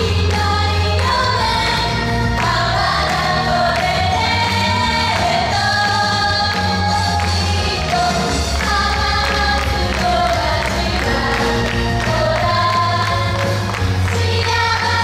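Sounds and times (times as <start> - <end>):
pop accompaniment with bass line: 0.0 - 15.0
women singing together: 0.0 - 15.0.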